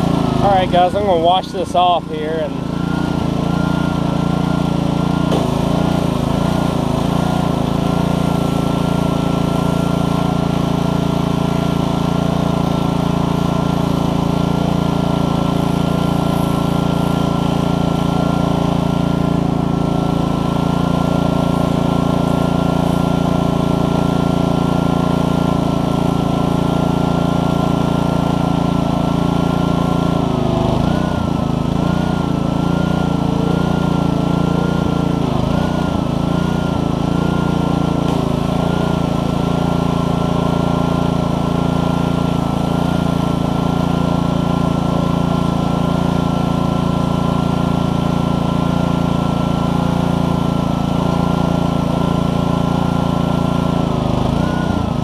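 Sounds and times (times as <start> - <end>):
water spraying from wand: 0.0 - 54.4
high pump whine: 0.0 - 55.0
small engine running steadily: 0.0 - 55.0.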